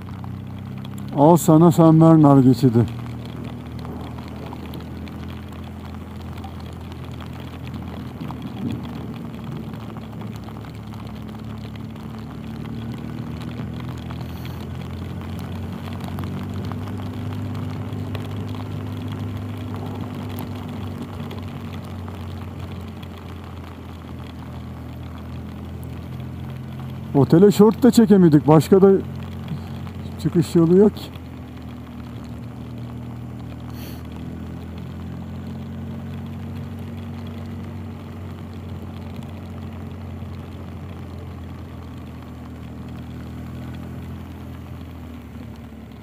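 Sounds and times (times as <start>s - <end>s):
motorcycle engine droning: 0.0s - 46.0s.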